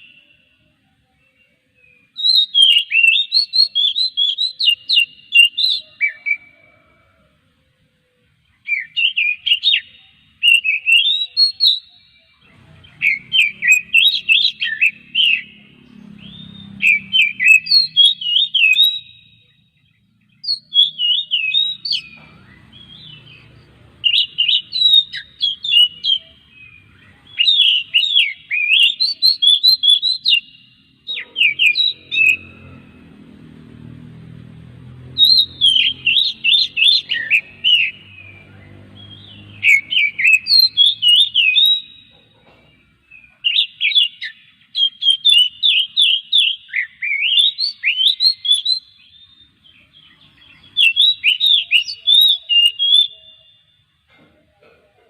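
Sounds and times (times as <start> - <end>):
bird singing whistled phrases: 1.8 - 6.6, 8.6 - 19.6, 20.4 - 32.7, 35.2 - 42.3, 43.2 - 53.8.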